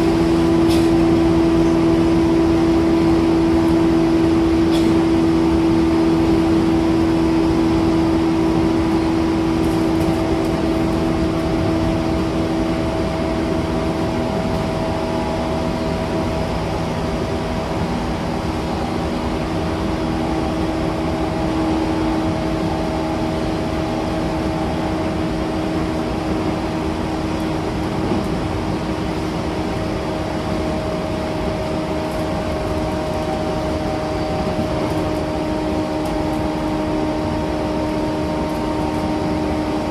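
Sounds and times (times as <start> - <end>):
electric train traction whine: 0.0 - 39.9
wheels rumbling on rail: 0.0 - 39.9.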